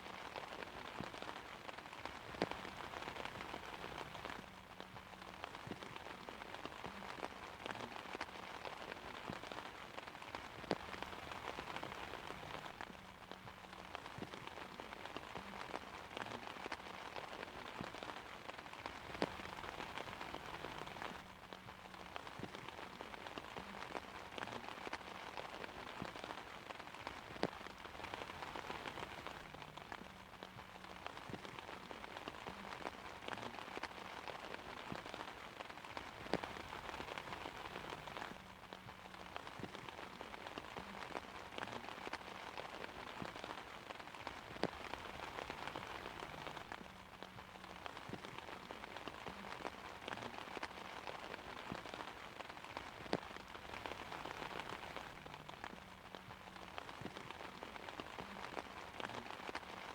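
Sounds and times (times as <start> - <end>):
rain falling on an umbrella: 0.0 - 59.9.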